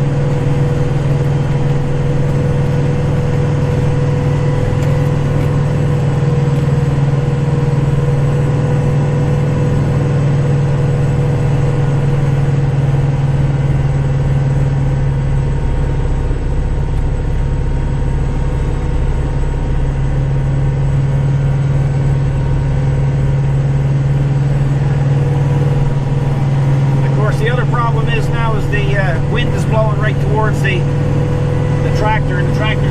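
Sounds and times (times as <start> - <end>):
faint steady whine: 0.0 - 32.9
tractor diesel engine drone: 0.0 - 32.9.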